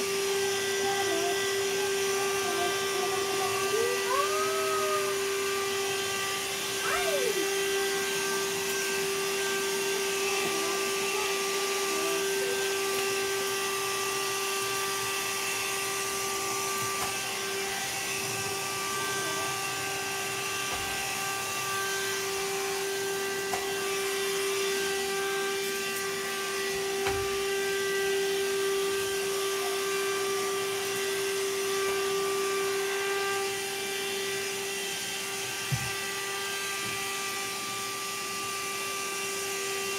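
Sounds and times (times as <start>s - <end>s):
vacuum cleaner humming: 0.0s - 39.9s.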